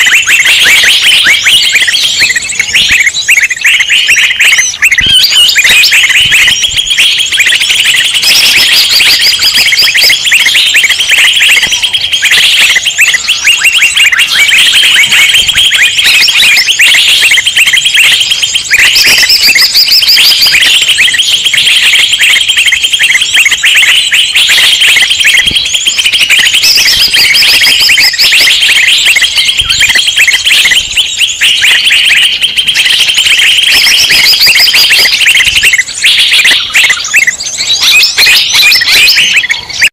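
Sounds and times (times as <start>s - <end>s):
chorus of chirping songbirds: 0.0s - 39.9s
sharp high bird calls: 0.0s - 39.9s.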